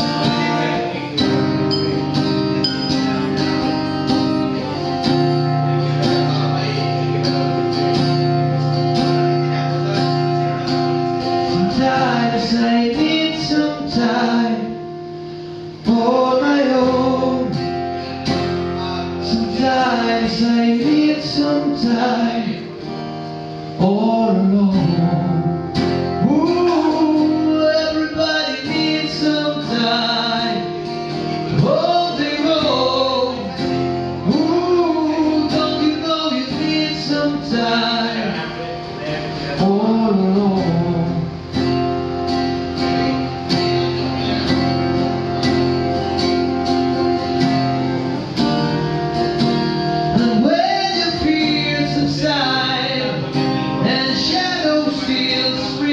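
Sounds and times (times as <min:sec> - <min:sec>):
man singing: 0:00.0 - 0:15.0, 0:15.8 - 0:23.0, 0:23.6 - 0:41.7, 0:50.0 - 0:55.9
acoustic guitar strumming: 0:00.0 - 0:55.9.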